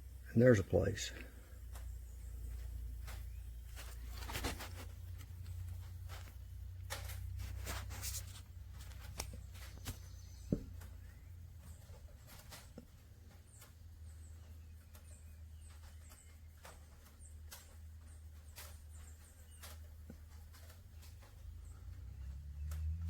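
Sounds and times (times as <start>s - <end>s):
handling clicks and rustles: 0.0s - 23.0s
steady low hum: 0.0s - 23.0s.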